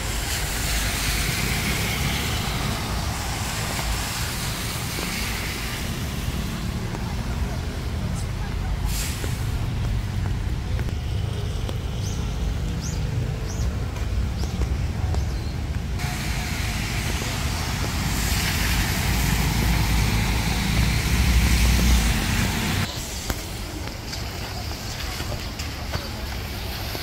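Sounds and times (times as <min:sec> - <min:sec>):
car tyres hissing on wet road: 0:00.0 - 0:14.4, 0:15.9 - 0:27.0.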